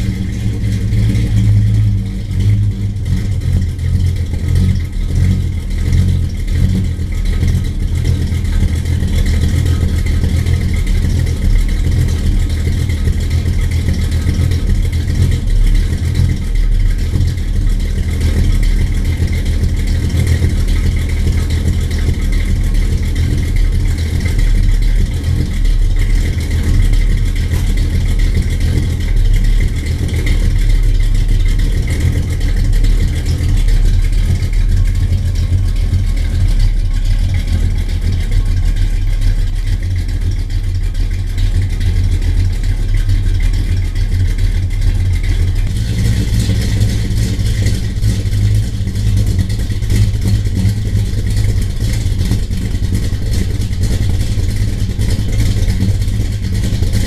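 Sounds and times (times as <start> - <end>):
car engine droning steadily: 0.0 - 57.0.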